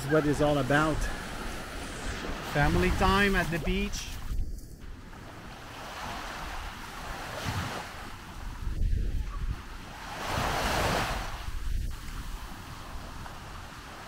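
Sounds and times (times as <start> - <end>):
waves washing on beach: 0.0 - 14.0
wind gusts buffeting microphone: 0.0 - 14.0.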